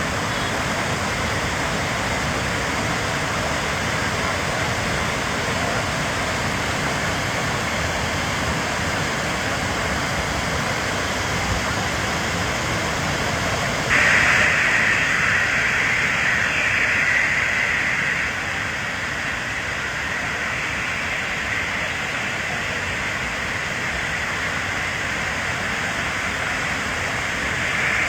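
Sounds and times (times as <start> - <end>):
higher hiss: 0.0 - 28.0
waterfall rushing: 0.0 - 28.0.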